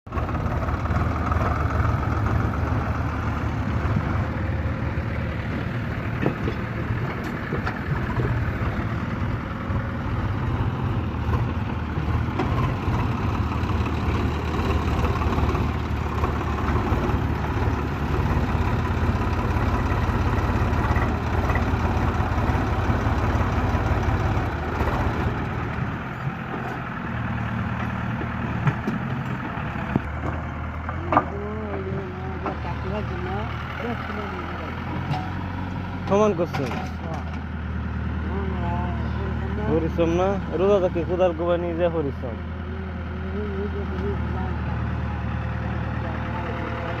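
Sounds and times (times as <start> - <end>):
tractor engine rumbling: 0.0 - 47.0.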